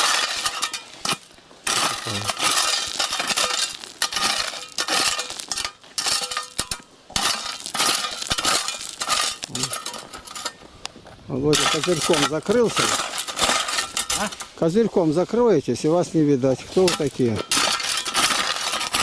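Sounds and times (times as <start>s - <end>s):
gravel crunching and scraping: 0.0s - 19.0s.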